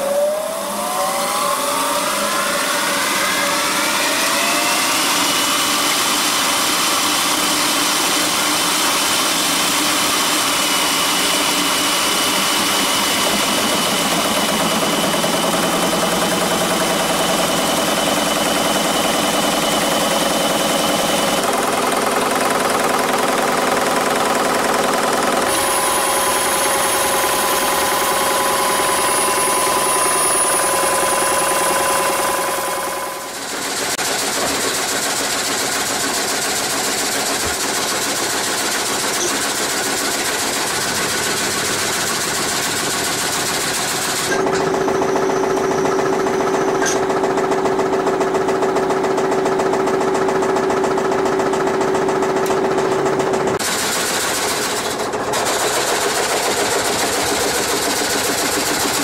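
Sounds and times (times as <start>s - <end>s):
sawmill machinery whine: 0.0s - 50.6s, 52.3s - 59.0s
mechanical clatter: 0.0s - 59.0s.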